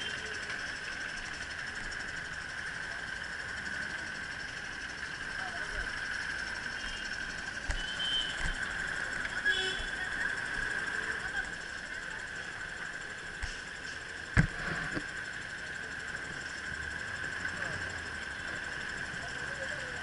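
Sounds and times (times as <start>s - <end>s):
steady high hum: 0.0s - 20.0s.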